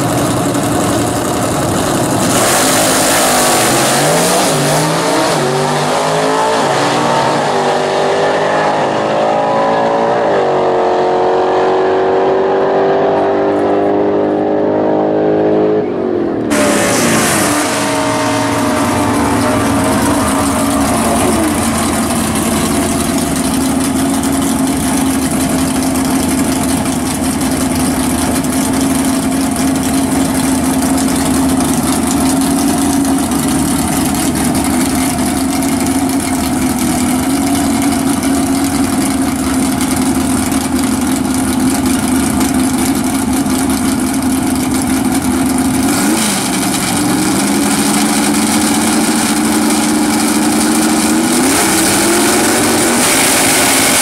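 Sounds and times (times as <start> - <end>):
car engine idling loudly: 0.0 - 7.8, 16.0 - 54.0.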